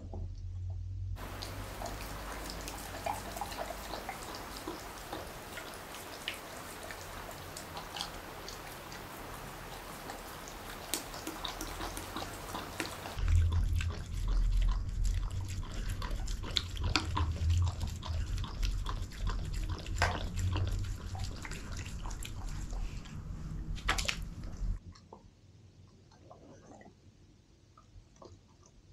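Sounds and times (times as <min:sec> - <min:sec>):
dog chewing wet food: 0:01.2 - 0:25.2.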